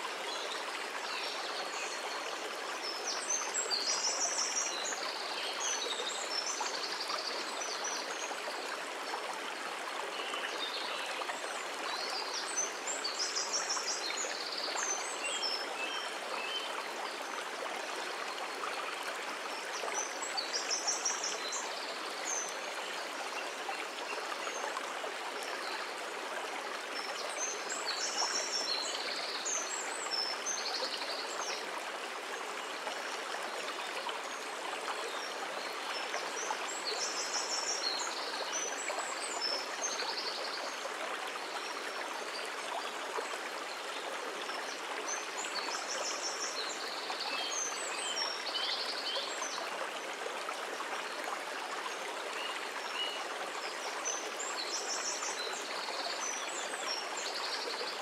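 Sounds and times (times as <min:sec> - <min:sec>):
stream running over stones: 0:00.0 - 0:58.0.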